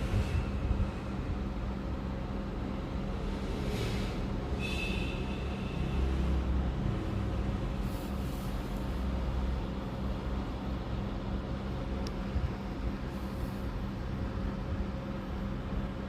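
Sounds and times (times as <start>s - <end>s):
faint constant whine: 0.0s - 16.0s
low mechanical rumble and hum: 0.0s - 16.0s.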